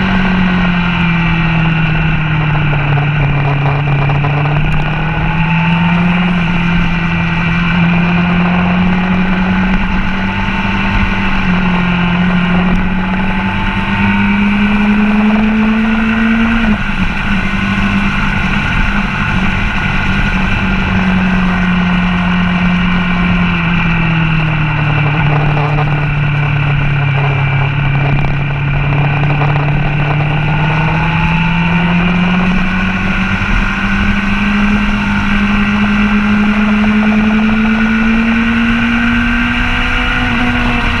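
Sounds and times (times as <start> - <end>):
motorcycle engine revving: 0.0 - 41.0
wind rushing over microphone: 0.0 - 41.0.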